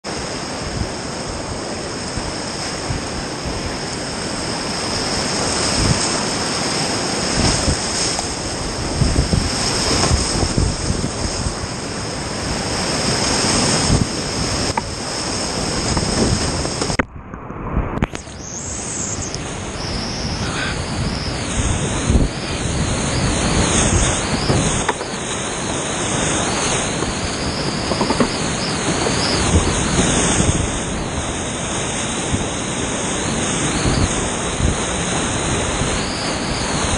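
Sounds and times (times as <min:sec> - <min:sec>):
rushing whitewater: 0:00.1 - 0:17.0, 0:18.2 - 0:36.9.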